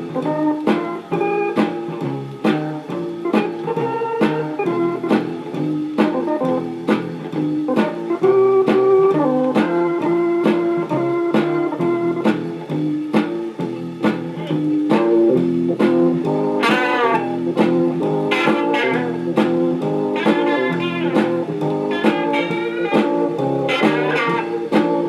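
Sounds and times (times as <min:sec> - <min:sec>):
blues tune on record player: 0:00.0 - 0:25.0
electric guitar: 0:00.0 - 0:25.0
organ: 0:00.0 - 0:25.0.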